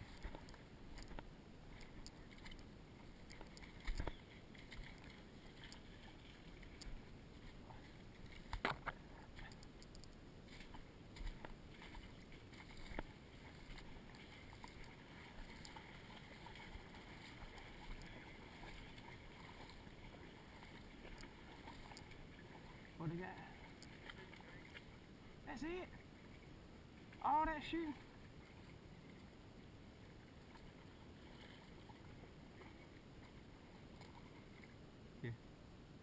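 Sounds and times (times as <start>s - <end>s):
water sloshing from wading: 0.0s - 35.0s.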